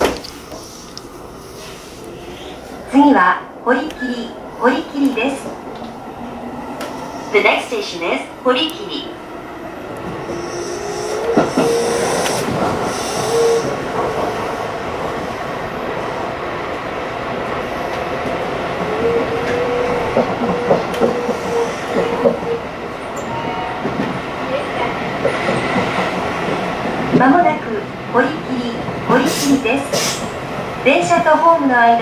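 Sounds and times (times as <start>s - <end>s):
rail joint clicks: 0.0s - 1.1s, 3.6s - 15.2s, 17.9s - 31.4s
train wheels rumbling on rail: 0.0s - 32.0s.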